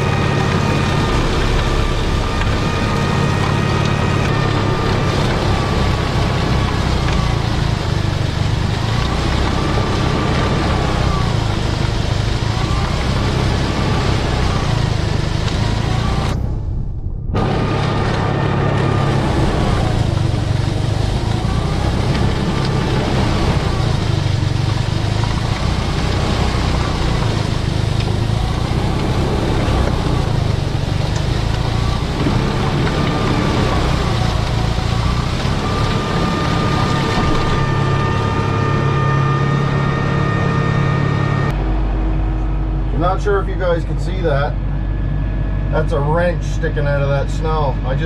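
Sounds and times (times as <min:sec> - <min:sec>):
tractor diesel engine revving: 0:00.0 - 0:48.0.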